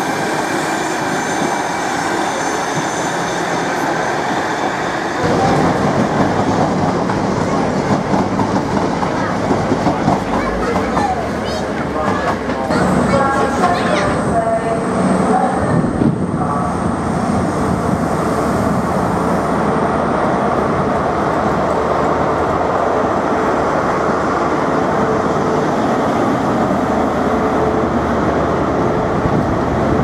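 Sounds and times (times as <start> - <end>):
train coaches rumbling past: 0.0 - 30.0.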